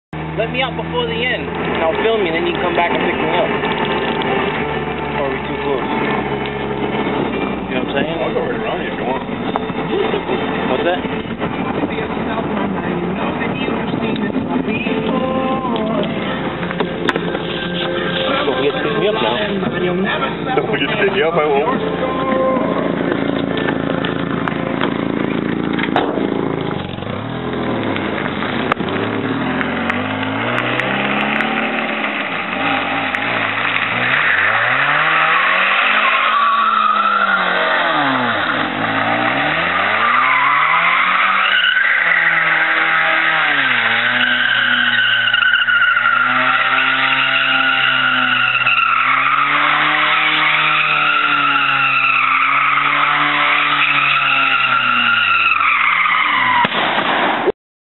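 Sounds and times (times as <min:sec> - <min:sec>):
car engine revving: 0:00.1 - 0:56.9
tires squealing: 0:00.2 - 0:57.5.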